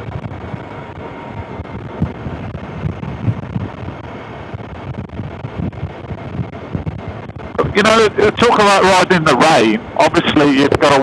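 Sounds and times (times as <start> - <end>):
motorcycle engine and road noise: 0.0 - 11.0
wind buffeting microphone: 0.0 - 11.0.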